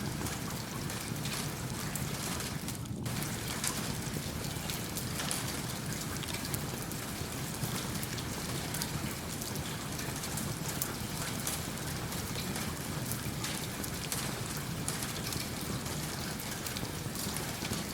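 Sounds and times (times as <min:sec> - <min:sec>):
crackling fireplace: 0:00.0 - 0:17.9
steady rain: 0:00.0 - 0:17.9.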